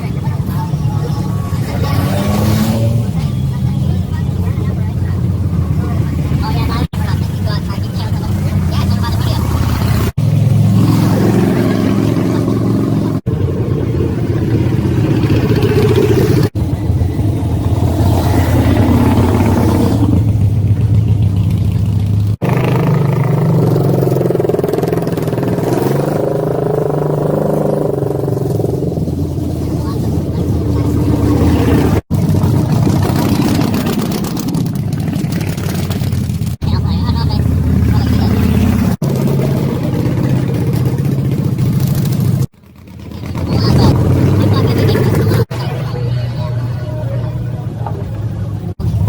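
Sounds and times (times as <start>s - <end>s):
motorcycle engines running: 0.0s - 49.0s.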